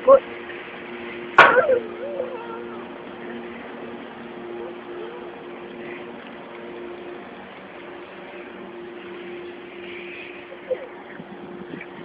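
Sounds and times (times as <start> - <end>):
even hiss: 0.0 - 12.0
machine hum: 0.0 - 12.0.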